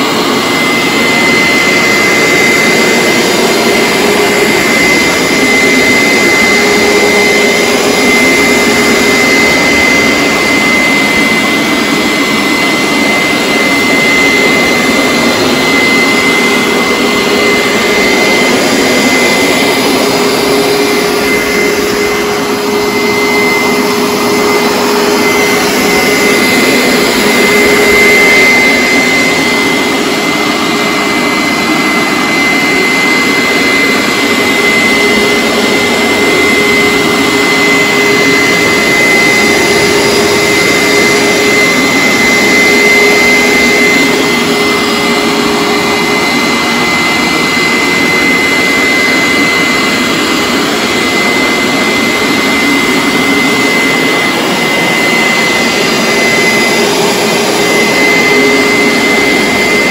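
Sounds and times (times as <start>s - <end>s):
carpet cleaner running: 0.0s - 59.9s.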